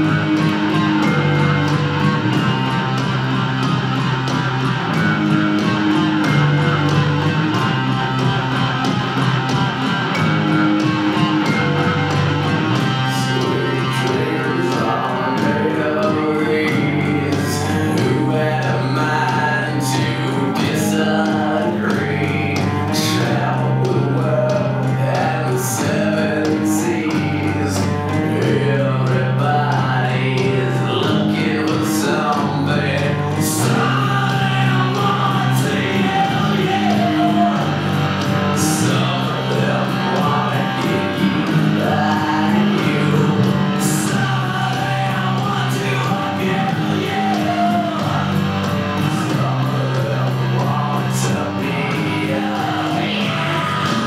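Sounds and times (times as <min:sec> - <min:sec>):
bass line: 0:00.0 - 0:54.0
drums: 0:00.0 - 0:54.0
person singing: 0:00.0 - 0:54.0
rock guitar: 0:00.0 - 0:54.0.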